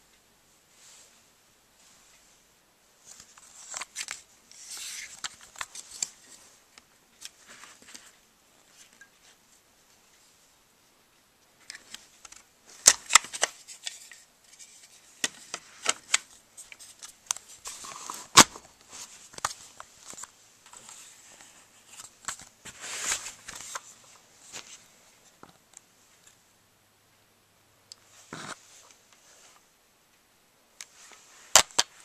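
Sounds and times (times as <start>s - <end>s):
rustling of hands and fabric: 0.5s - 10.6s, 11.4s - 26.4s, 28.0s - 29.8s.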